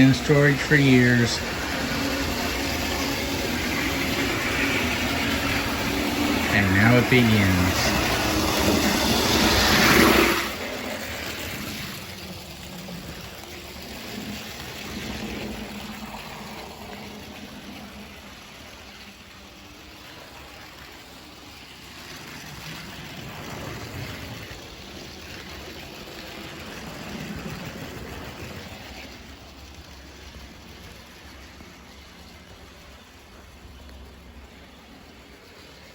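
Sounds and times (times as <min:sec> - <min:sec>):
model train motor hum: 0:00.0 - 0:35.9
wheels rumbling over rail joints: 0:00.0 - 0:35.9.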